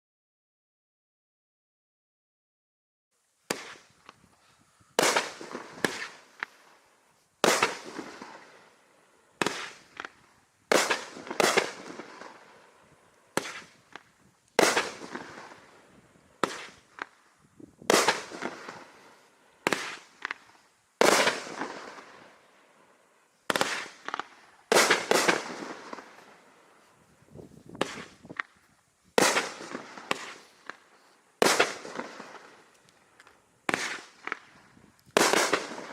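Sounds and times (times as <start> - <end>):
fireworks bangs with tails: 3.4 - 4.3, 4.9 - 22.7, 23.4 - 35.9.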